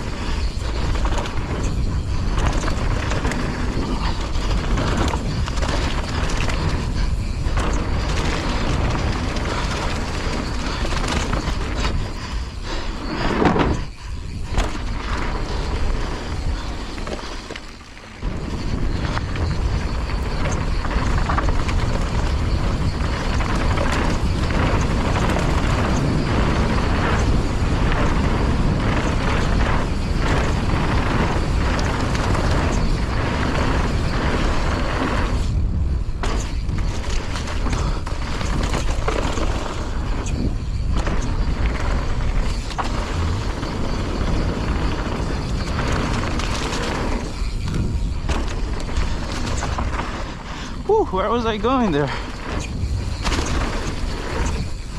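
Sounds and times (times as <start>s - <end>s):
bike rattle and tyre noise: 0.0s - 54.9s
wind buffeting microphone: 0.0s - 54.9s.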